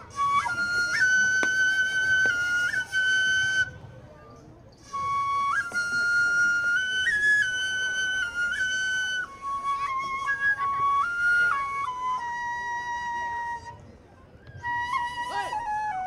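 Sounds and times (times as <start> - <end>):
flute melody: 0.0 - 16.0.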